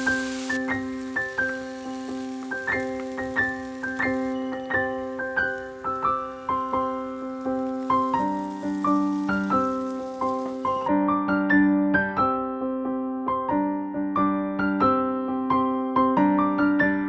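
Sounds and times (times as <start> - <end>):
piano keyboard tune: 0.0 - 17.0.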